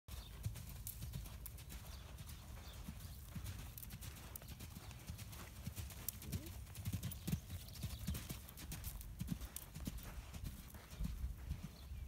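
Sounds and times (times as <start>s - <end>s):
hooves thudding on sand: 0.1s - 12.0s.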